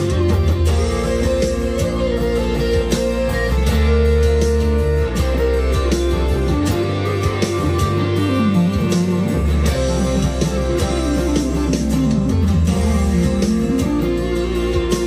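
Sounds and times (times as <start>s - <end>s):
electric guitar lead runs: 0.0s - 15.0s
low sustained guitar notes: 0.0s - 15.0s.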